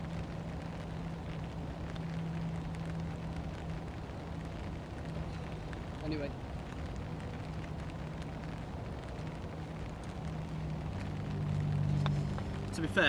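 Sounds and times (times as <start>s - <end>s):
rain falling: 0.0s - 13.0s
wind rumbling on microphone: 0.0s - 13.0s.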